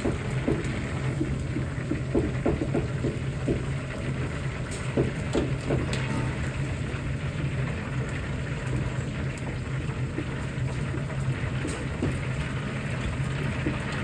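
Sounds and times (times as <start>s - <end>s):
hot oil sizzling: 0.0s - 14.0s
kitchen equipment hum: 0.0s - 14.0s.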